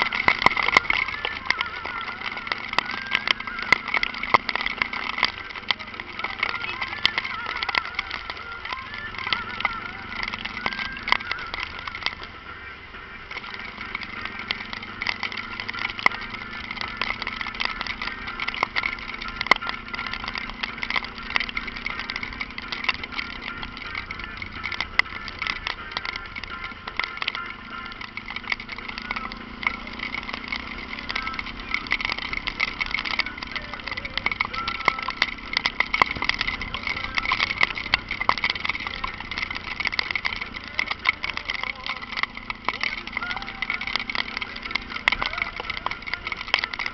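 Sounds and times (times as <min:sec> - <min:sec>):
motorcycle engine running: 0:00.0 - 0:46.9
sharp crackles and ticks: 0:00.0 - 0:46.9
steady rushing noise: 0:00.0 - 0:46.9.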